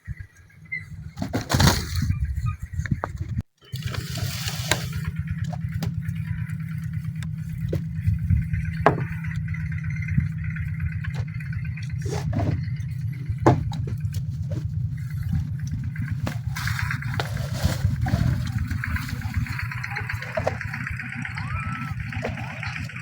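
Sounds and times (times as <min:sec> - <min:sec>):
tractor diesel engine running: 0:00.0 - 0:23.0
knocks and clanks: 0:02.9 - 0:23.0.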